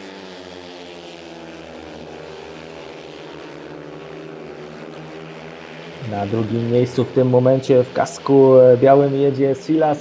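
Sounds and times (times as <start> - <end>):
motorcycle engines racing: 0.0 - 10.0.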